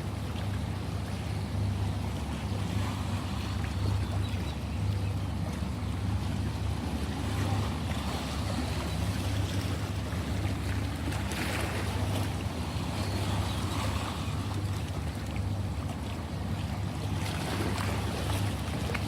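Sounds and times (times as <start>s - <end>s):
ocean waves surf hiss: 1.9s - 4.0s, 5.5s - 18.9s.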